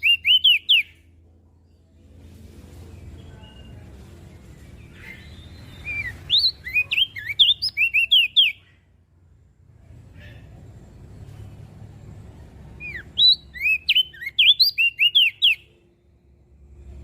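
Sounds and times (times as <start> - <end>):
bird chirping: 0.0 - 9.0, 9.8 - 17.0.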